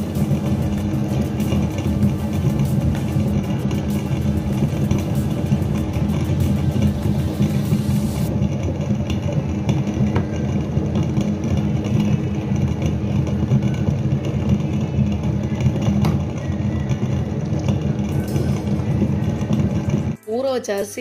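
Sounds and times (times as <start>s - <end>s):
wet grinder motor hum: 0.0s - 20.2s.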